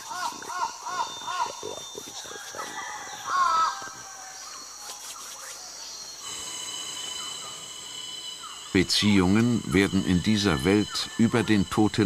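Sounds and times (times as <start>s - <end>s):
faint wild ambience: 0.0s - 12.0s
insects singing high-pitched: 0.0s - 12.0s.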